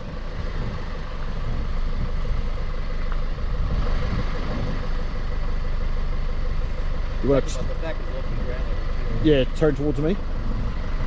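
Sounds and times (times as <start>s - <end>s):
vehicle engine running at low revs: 0.0s - 11.0s.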